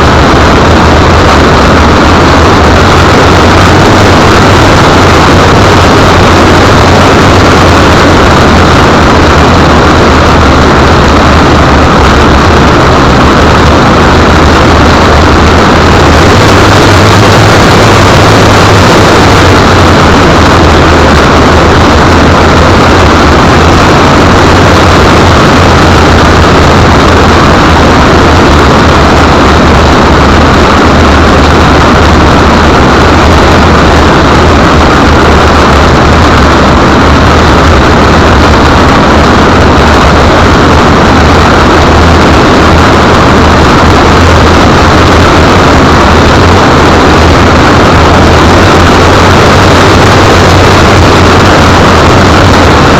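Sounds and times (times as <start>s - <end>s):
loud distorted noise: 0.0s - 52.9s
low engine hum: 0.0s - 52.9s.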